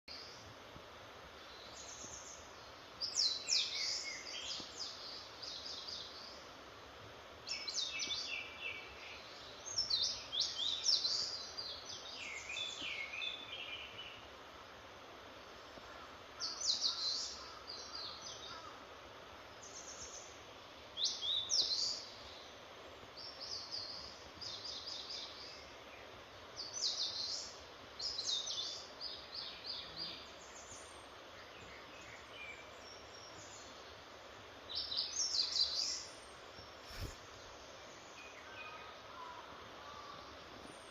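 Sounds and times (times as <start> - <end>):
steady background hiss: 0.1 - 40.9.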